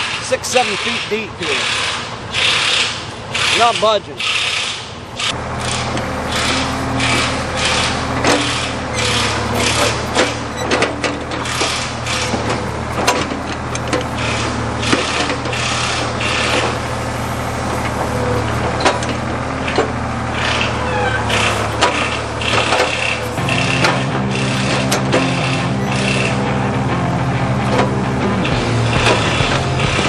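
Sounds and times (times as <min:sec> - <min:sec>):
backhoe engine running: 0:00.0 - 0:30.0
wood cracking and creaking: 0:02.3 - 0:30.0.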